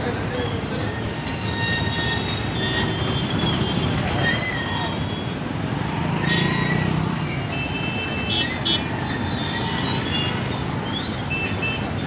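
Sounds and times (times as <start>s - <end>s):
road traffic din: 0.0s - 12.0s.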